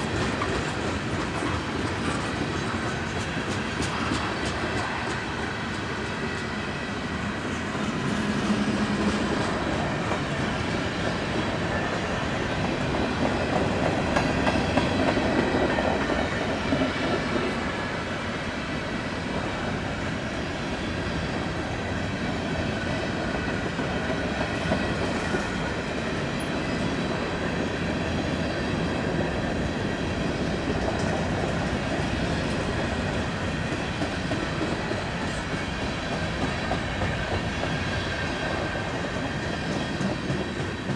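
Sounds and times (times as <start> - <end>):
railroad cars rumbling: 0.0 - 40.9.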